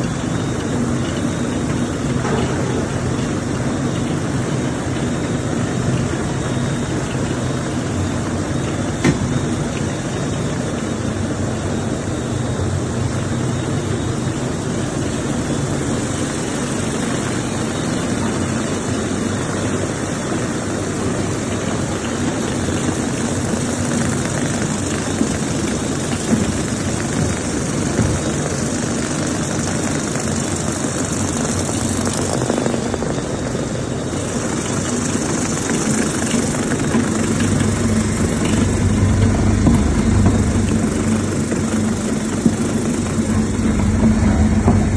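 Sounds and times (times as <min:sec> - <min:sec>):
mixer machine drone: 0:00.0 - 0:44.9.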